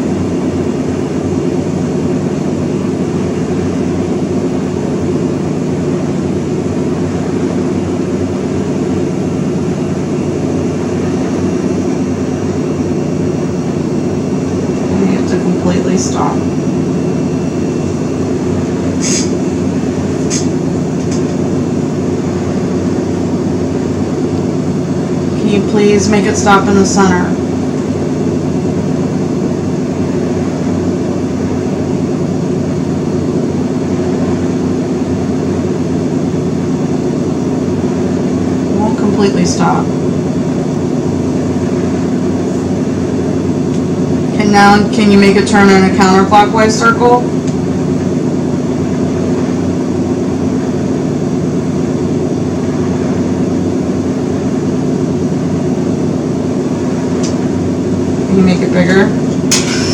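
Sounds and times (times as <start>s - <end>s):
loud machine hum with rushing: 0.0s - 59.9s.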